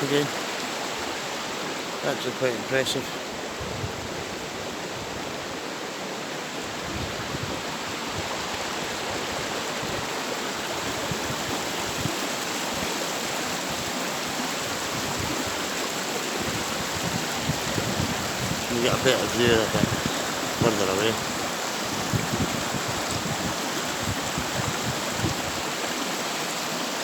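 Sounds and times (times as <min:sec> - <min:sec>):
water rushing over rocks: 0:00.0 - 0:27.0.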